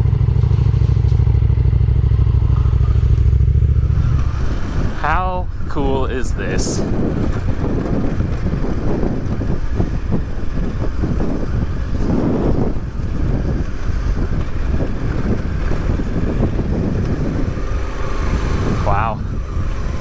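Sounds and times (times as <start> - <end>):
motorcycle engine running: 0.0 - 20.0
wind on microphone: 0.0 - 20.0.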